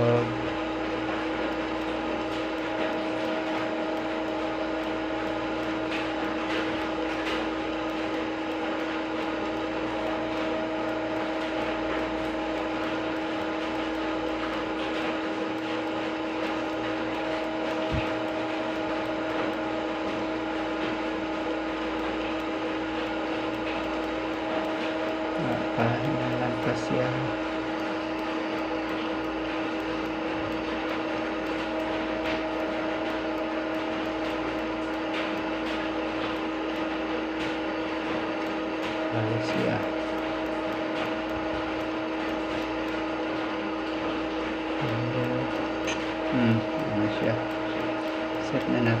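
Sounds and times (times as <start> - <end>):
machine hum with steady tone: 0.0 - 49.0.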